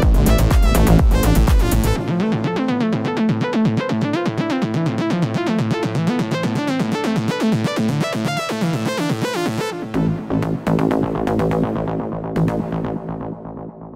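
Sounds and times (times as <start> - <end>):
synthesizer arpeggio: 0.0 - 13.5.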